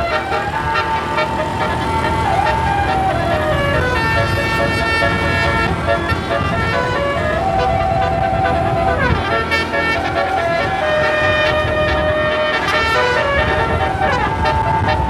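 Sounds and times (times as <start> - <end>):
bus musical air horn: 0.0 - 15.0.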